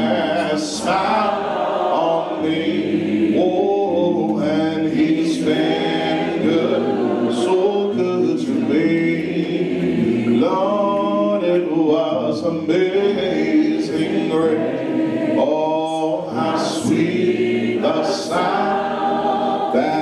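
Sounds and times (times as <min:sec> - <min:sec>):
congregation singing a hymn: 0:00.0 - 0:20.0.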